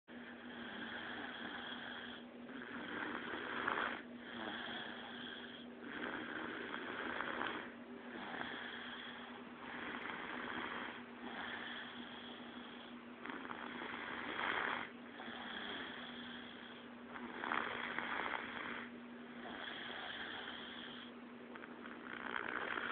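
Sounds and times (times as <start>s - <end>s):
person snoring: 0.2s - 22.9s.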